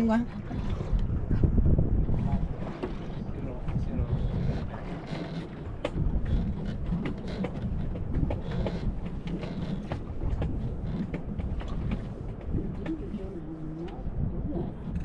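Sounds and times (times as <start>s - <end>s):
clicks and knocks from boat: 0.0s - 15.0s
water rumbling around boat: 0.0s - 15.0s
wind: 0.0s - 15.0s.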